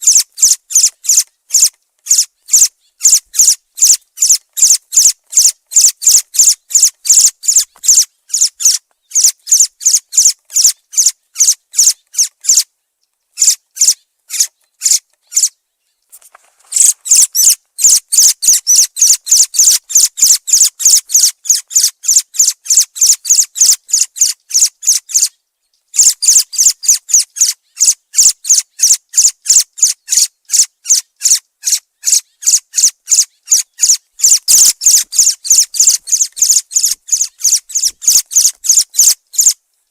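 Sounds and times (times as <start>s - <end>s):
thrush calling: 0.0s - 12.6s, 13.4s - 15.5s, 16.7s - 25.3s, 26.0s - 39.6s.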